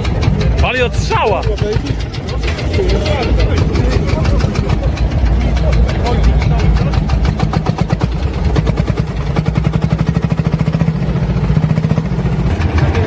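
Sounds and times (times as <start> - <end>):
diesel engine clattering: 0.0 - 13.0.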